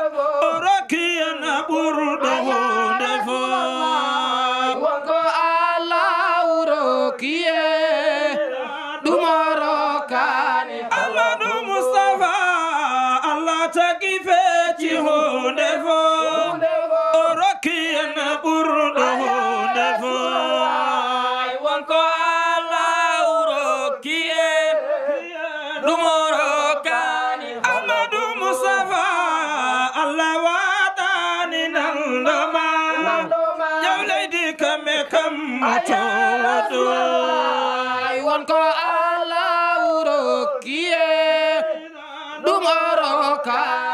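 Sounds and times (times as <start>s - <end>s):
men chanting devotional song: 0.0s - 43.9s.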